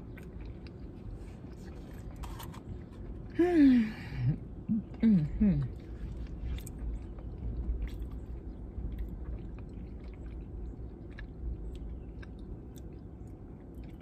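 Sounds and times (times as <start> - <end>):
person chewing food: 0.0 - 3.4, 5.5 - 14.0.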